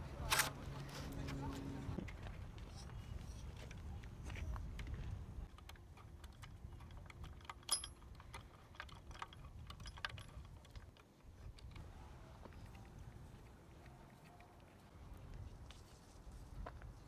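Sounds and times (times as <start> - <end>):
light clicks and taps on bike parts: 2.0 - 16.9.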